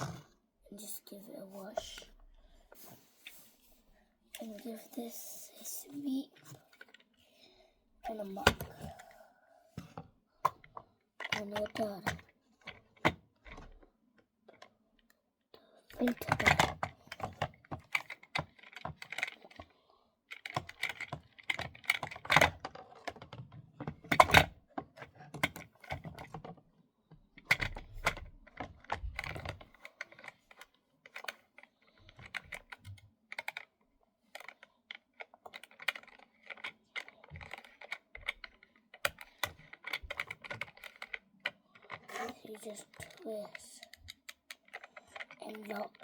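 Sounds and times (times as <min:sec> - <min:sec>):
plastic parts clicking and knocking: 0:04.3 - 0:07.2, 0:08.1 - 0:09.2, 0:09.8 - 0:15.2, 0:15.9 - 0:19.7, 0:20.3 - 0:46.0.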